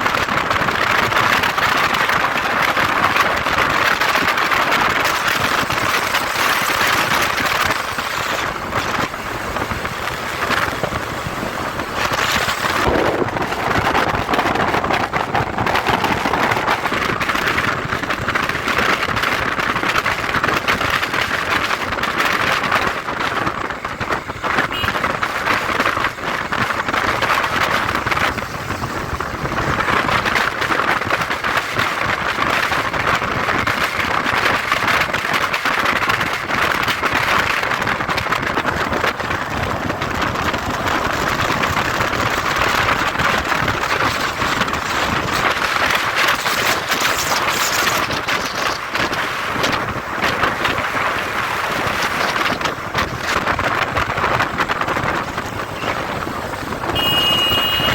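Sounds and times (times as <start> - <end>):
wind and road noise: 0.0 - 57.9
motorcycle engine: 0.2 - 57.9.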